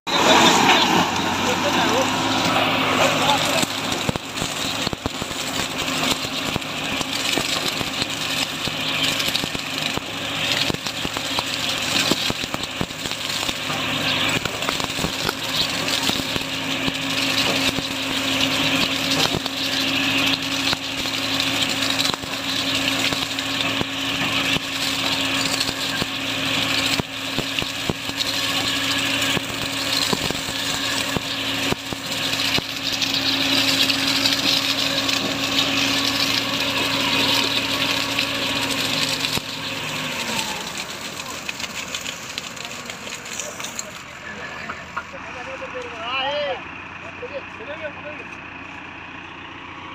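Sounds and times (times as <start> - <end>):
tractor engine humming: 0.0 - 49.9
cane stalks crackling and snapping: 0.2 - 44.2.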